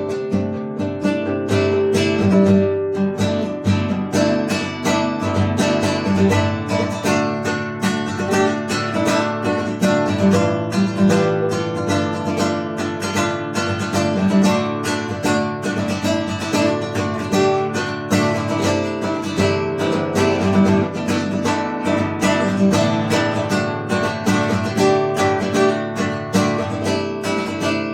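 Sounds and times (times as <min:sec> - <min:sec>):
acoustic guitar strumming: 0:00.0 - 0:27.9.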